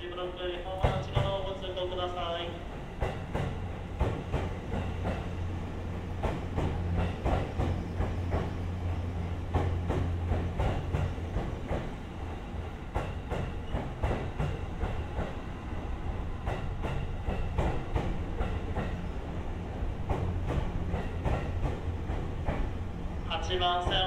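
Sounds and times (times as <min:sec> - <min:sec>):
electric train rumble: 0:00.0 - 0:24.0.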